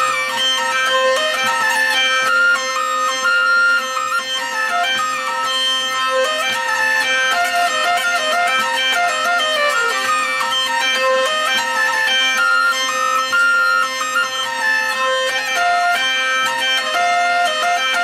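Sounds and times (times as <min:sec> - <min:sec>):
hurdy-gurdy melody: 0:00.0 - 0:18.0.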